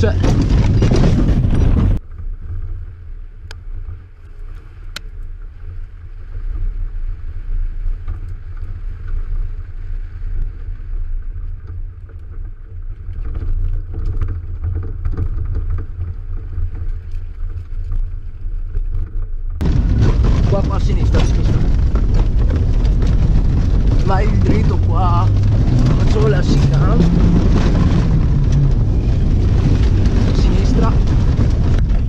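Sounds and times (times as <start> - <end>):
car engine and tyres rumbling: 0.0 - 32.0
wind on microphone: 0.0 - 32.0.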